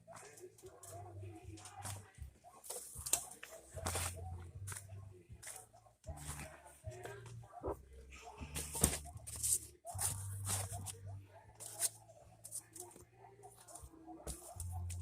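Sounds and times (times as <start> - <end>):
rustling and scraping handling noises: 0.0 - 15.0.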